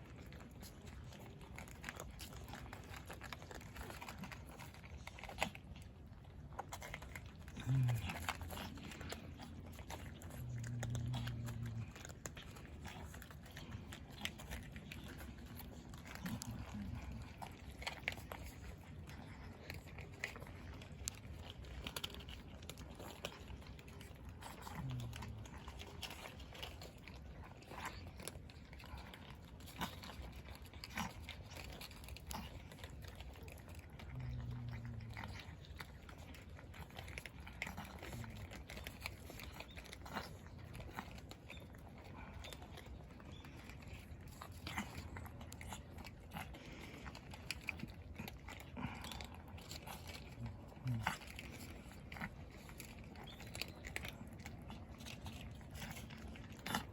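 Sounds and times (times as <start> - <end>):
cats crunching dry food: 0.0 - 56.9.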